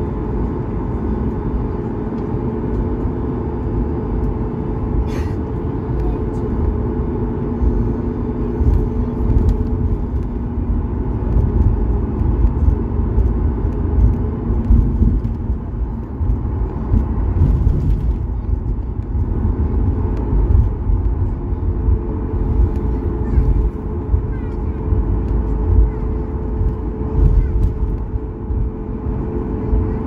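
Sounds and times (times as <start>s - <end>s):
aircraft engines low rumble: 0.0s - 30.0s.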